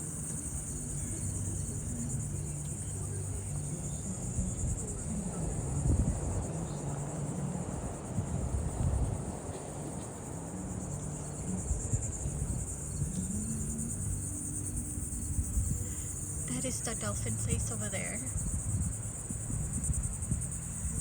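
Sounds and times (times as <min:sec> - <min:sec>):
cicadas buzzing: 0:00.0 - 0:21.0.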